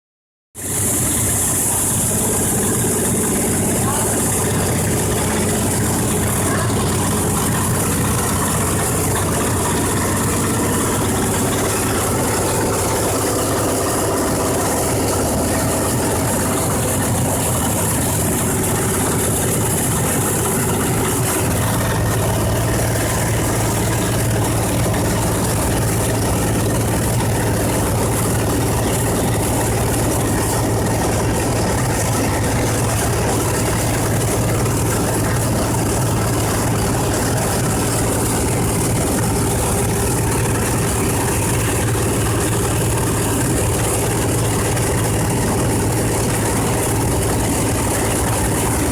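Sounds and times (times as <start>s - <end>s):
blower machine humming: 0.6s - 48.9s.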